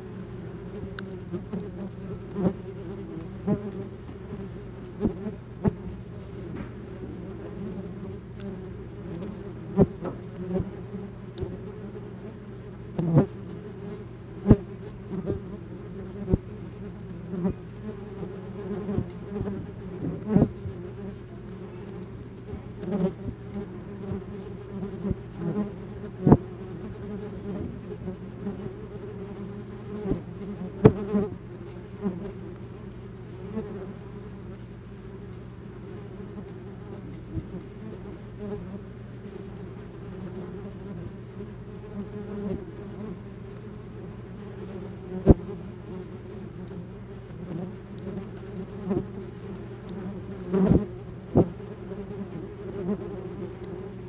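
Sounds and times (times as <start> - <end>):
wasps buzzing: 0.0 - 54.0.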